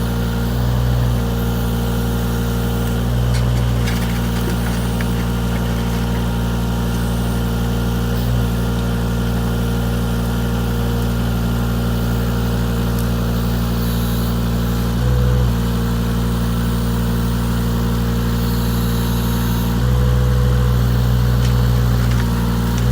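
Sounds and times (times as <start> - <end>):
loader engine running: 0.0 - 22.9.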